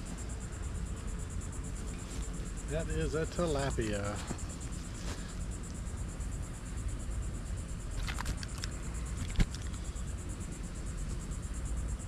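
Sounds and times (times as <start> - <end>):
insect trilling: 0.0 - 12.0
low outdoor rumble: 0.0 - 12.0.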